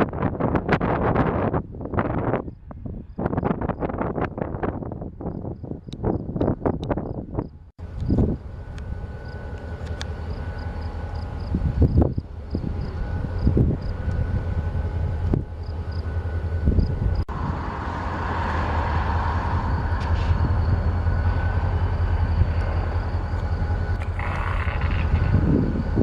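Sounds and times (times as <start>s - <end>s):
rolling train noise: 0.0s - 26.0s
locomotive engine rumbling: 1.5s - 26.0s.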